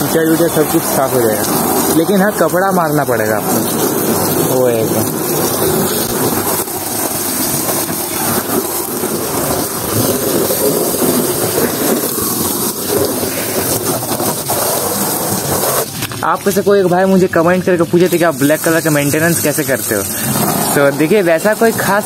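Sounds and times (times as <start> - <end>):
hose water spraying on metal: 0.0 - 22.0.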